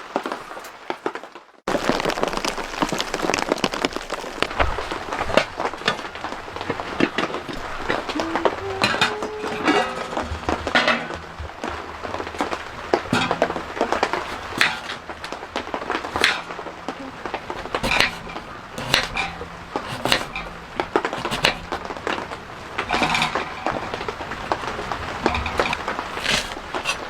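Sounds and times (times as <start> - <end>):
objects knocking and clattering: 4.5 - 27.0.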